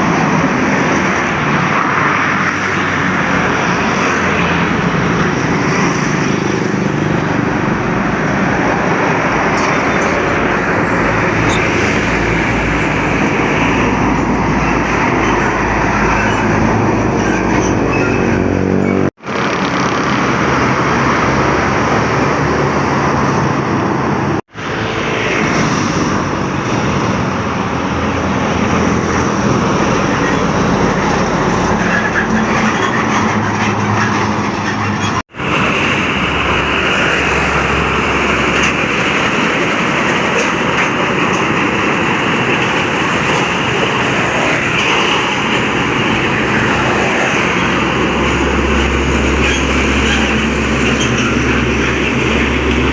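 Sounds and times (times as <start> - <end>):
highway traffic driving past: 0.0 - 52.9.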